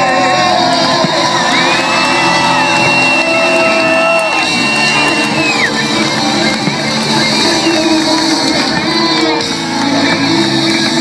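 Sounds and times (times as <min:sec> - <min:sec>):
loud music over sound system: 0:00.0 - 0:11.0.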